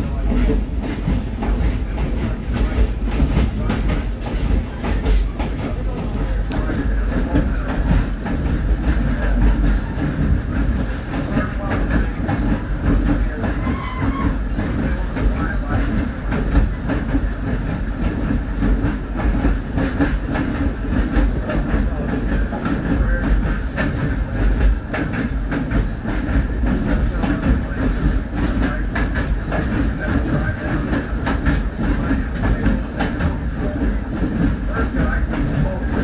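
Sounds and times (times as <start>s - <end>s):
rumble of rolling railcar: 0.0s - 36.0s.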